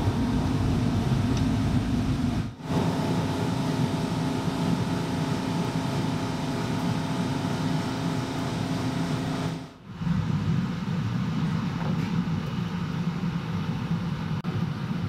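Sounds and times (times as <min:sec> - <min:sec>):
workshop machine motor drone: 0:00.0 - 0:14.1.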